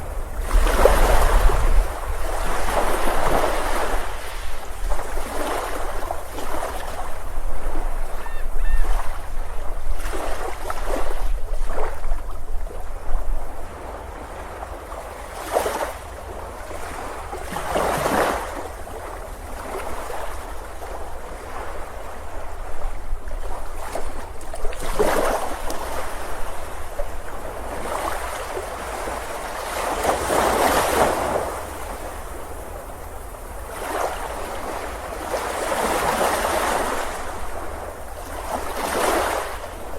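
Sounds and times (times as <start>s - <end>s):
ocean surf breaking on beach: 0.0s - 39.9s
wind rumbling on microphone: 0.0s - 39.9s.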